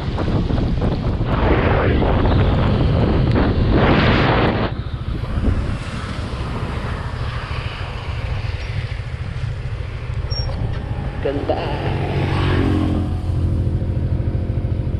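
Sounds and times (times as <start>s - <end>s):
motorcycle engine and road rumble: 0.0s - 14.9s
wind rushing over microphone: 0.0s - 14.9s.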